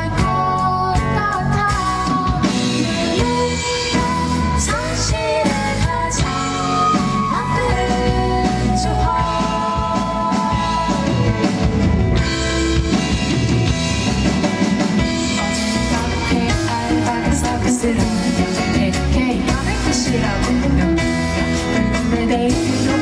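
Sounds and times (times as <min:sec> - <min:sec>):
drums: 0:00.0 - 0:23.0
guitar: 0:00.0 - 0:23.0
live band music: 0:00.0 - 0:23.0.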